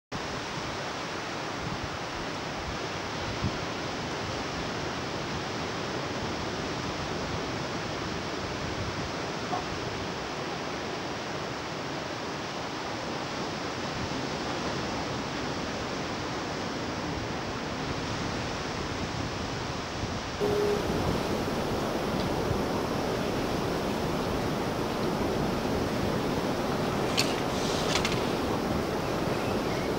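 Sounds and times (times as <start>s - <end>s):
ocean surf on beach: 0.2s - 29.9s.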